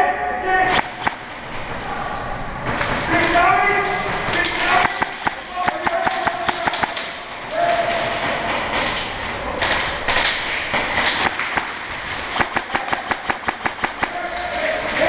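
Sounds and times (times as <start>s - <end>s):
airsoft guns firing: 0.6s - 1.7s, 2.6s - 15.0s
noisy clatter: 0.6s - 15.0s.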